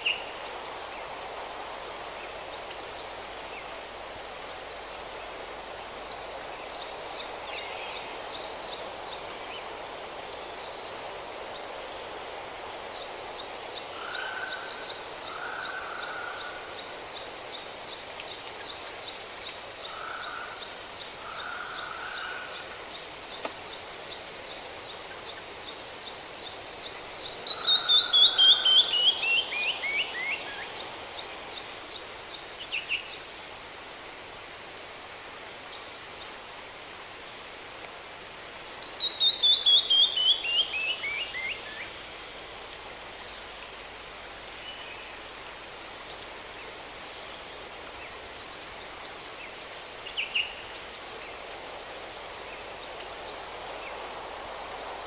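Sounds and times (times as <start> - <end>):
background hiss: 0.0 - 55.0.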